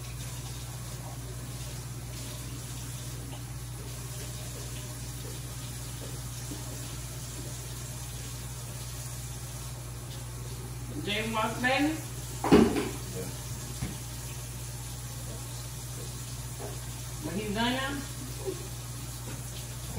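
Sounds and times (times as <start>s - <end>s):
faucet running into sink: 0.0s - 10.9s, 12.0s - 19.9s.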